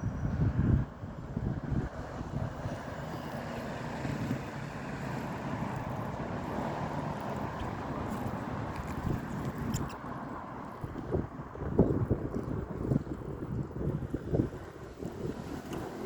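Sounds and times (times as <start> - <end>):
traffic engines rumbling: 0.0 - 16.0
tyre noise on road: 0.0 - 16.0.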